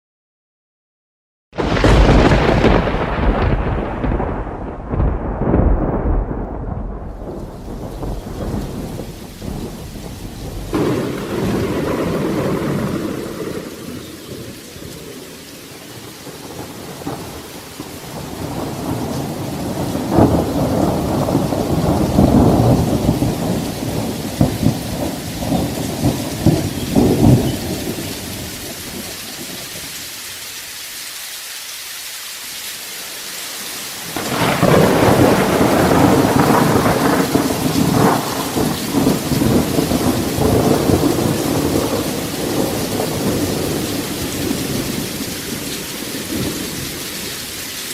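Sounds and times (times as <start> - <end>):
rolling thunder: 1.6 - 29.9, 34.0 - 47.6
steady rain: 1.6 - 47.9.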